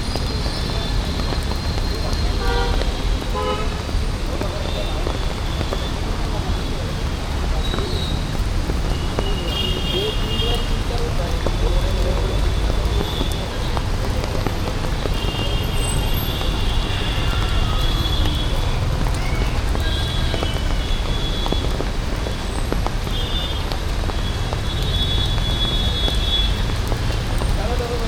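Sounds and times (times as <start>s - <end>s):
rain hiss: 0.0s - 28.0s
road traffic rumble: 0.0s - 28.0s.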